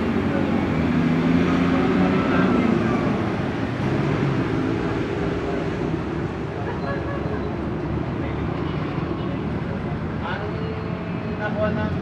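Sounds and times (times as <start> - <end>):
cycle race noise: 0.0 - 12.0.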